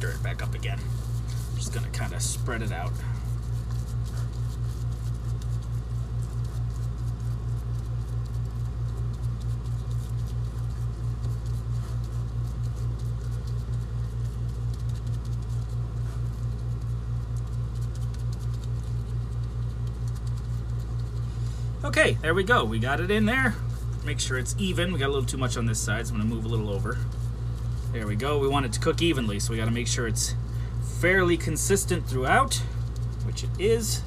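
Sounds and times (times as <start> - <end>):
wet patting of meat mixture: 0.0 - 29.6
steady low hum: 0.0 - 34.0.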